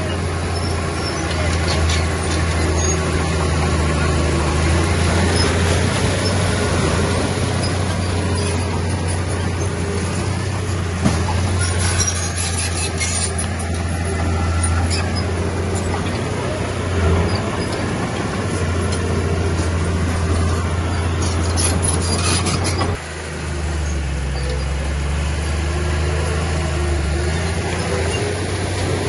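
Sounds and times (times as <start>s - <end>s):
heavy diesel engine droning: 0.0s - 29.0s.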